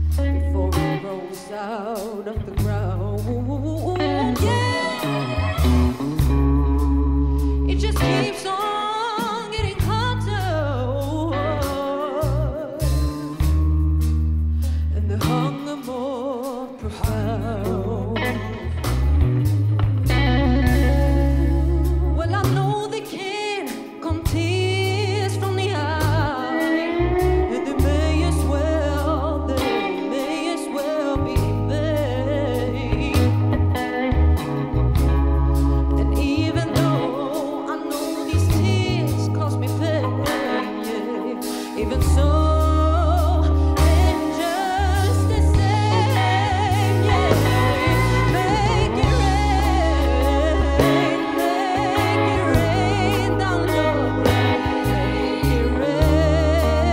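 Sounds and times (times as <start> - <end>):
bass guitar notes: 0.0 - 8.7, 9.6 - 56.9
drums: 0.0 - 56.9
guitar: 0.0 - 56.9
keyboard: 0.0 - 56.9
live band music: 0.0 - 56.9
woman singing with vibrato: 0.2 - 6.3, 7.7 - 13.4, 14.9 - 18.9, 20.6 - 34.2, 35.9 - 56.9.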